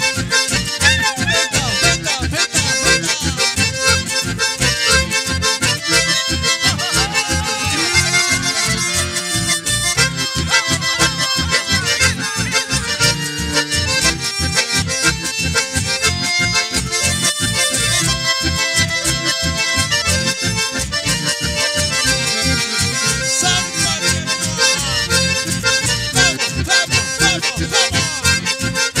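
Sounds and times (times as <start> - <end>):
accordions playing melody: 0.0 - 29.0
acoustic guitar: 0.0 - 29.0
electric bass: 0.0 - 29.0.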